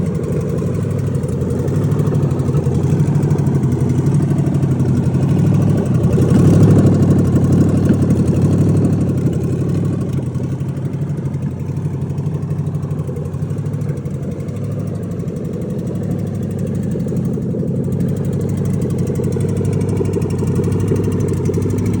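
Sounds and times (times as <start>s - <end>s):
car engine idling: 0.0s - 22.0s
engine ticking: 0.0s - 22.0s.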